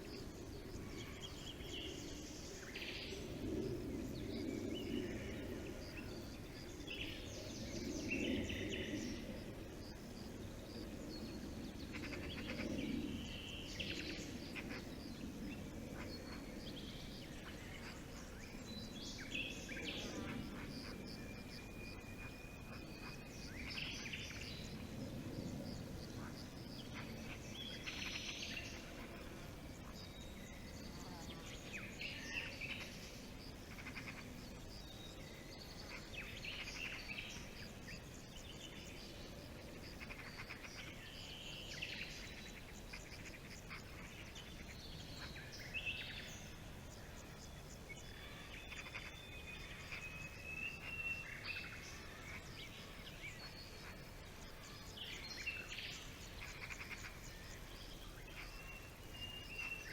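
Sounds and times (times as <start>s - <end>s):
faint background hiss: 0.0s - 59.9s
birds calling and trilling: 0.1s - 59.9s.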